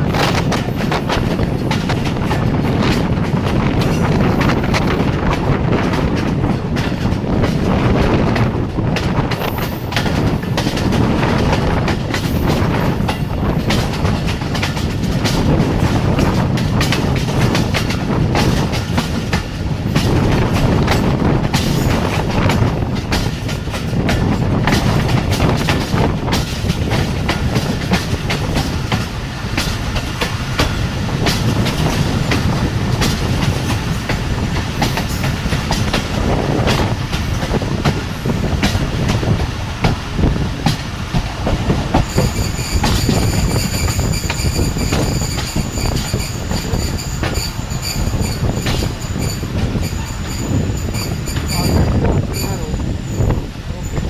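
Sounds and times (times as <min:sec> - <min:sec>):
train wheels rumbling on rails: 0:00.0 - 0:54.0
wheels clattering over rail joints: 0:00.0 - 0:54.0.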